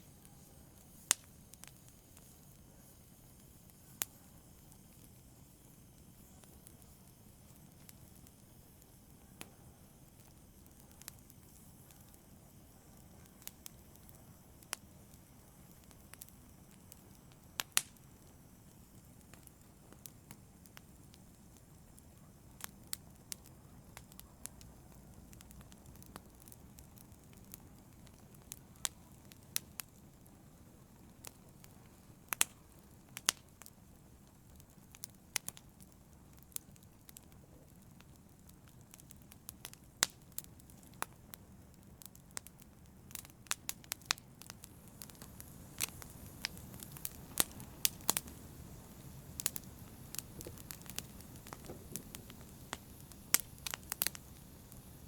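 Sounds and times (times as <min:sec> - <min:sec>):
flames rumbling and hissing: 0:00.0 - 0:55.0
wood fire crackling: 0:00.0 - 0:55.0
sharp pops of fire: 0:00.1 - 0:55.0.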